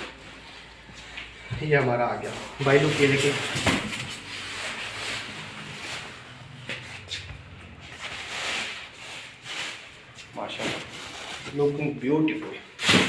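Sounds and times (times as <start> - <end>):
plastic wrap rustling: 0.0 - 13.0.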